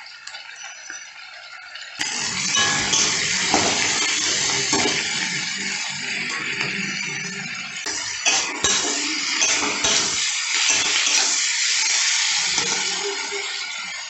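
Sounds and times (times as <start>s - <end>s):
vegetables sizzling in pan: 2.0s - 14.0s.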